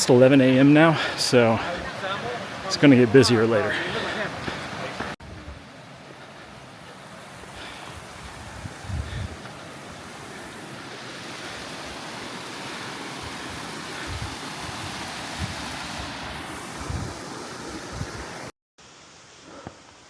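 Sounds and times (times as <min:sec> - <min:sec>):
stream water rushing: 0:00.0 - 0:19.3.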